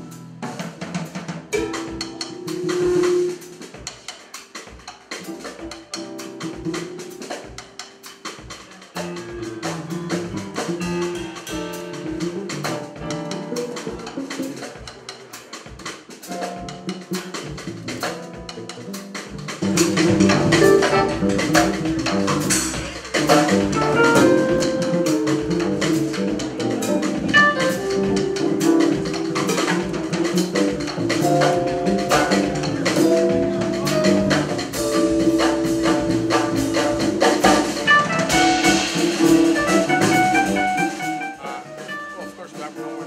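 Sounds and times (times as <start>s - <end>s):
jazz piano trio playing: 0.0s - 43.0s.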